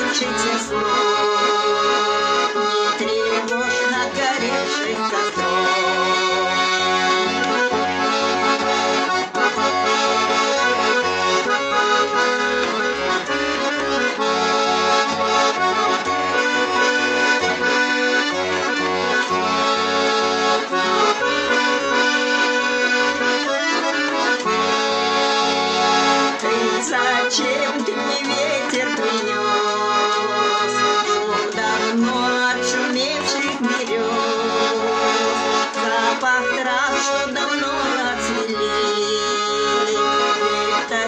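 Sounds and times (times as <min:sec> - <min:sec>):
button accordion folk melody: 0:00.0 - 0:41.0.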